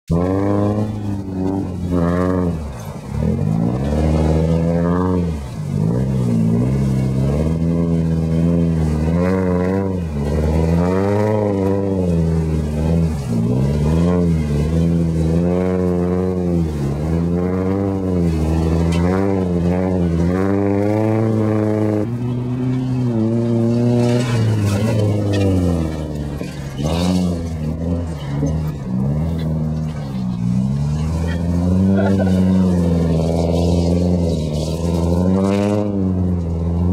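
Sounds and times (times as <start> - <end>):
car engine revving hard: 0.1 - 36.9.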